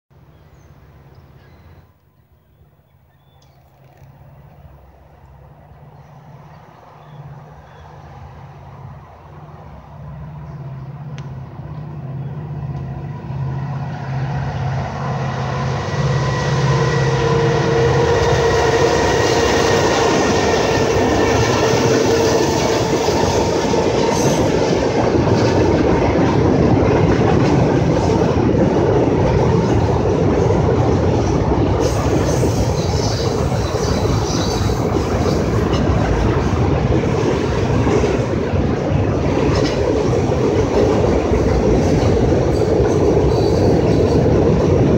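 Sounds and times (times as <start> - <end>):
diesel locomotive engine: 0.1 - 44.9
train wheels rolling on rails: 3.2 - 44.9.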